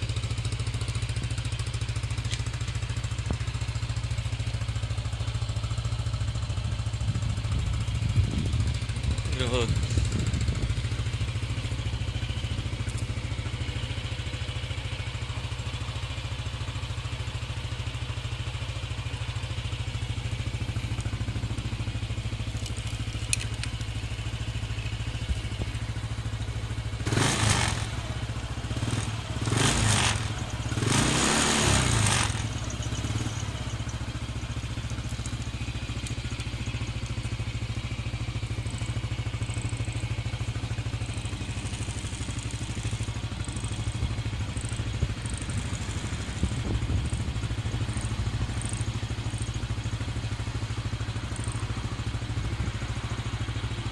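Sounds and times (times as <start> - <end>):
scooter engine idling: 0.0 - 53.9.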